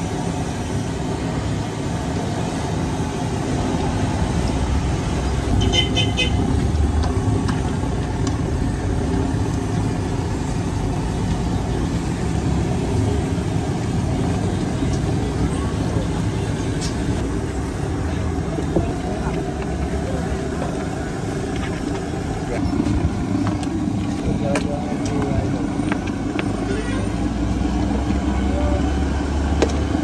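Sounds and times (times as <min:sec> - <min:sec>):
street traffic rumble: 0:00.0 - 0:30.0.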